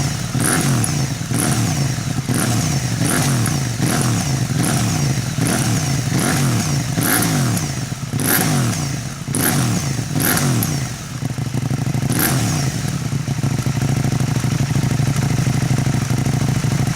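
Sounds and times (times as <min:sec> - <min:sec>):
motorcycle engine idling: 0:00.0 - 0:16.9
motorcycle engine revving: 0:00.0 - 0:16.9.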